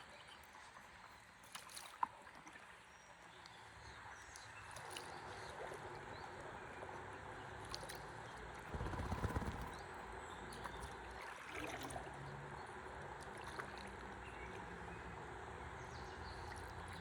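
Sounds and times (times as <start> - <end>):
water lapping and gurgling: 0.0 - 17.0.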